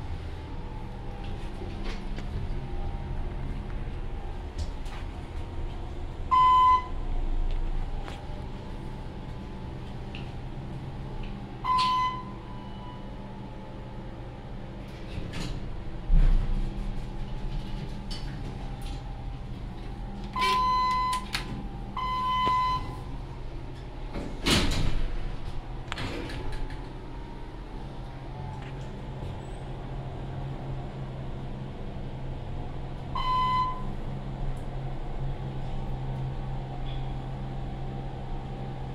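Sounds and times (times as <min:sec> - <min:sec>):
elevator doors sliding: 0:00.0 - 0:13.9, 0:14.5 - 0:38.7
elevator humming: 0:00.0 - 0:38.9.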